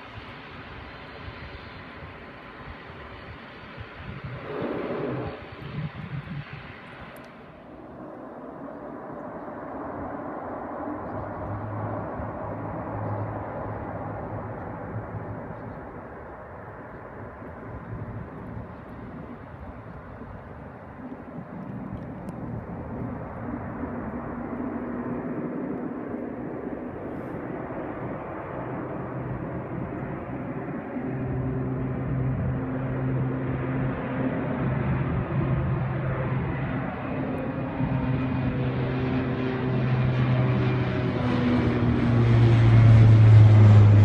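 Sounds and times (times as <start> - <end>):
distant aircraft engines rushing: 0.0 - 44.0.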